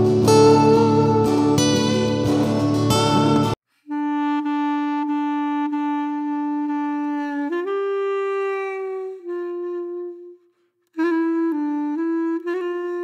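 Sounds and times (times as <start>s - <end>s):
reed wind instrument long notes: 0.0s - 13.0s.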